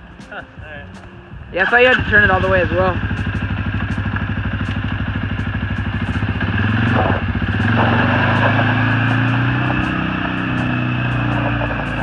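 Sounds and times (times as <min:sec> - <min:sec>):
quad bike engine idling: 0:01.6 - 0:12.0.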